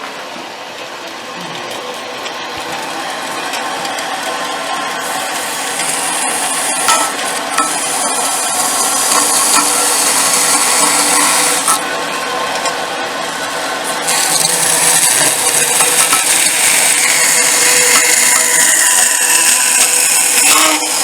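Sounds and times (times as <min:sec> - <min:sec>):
bandsaw cutting horn: 0:02.6 - 0:21.0.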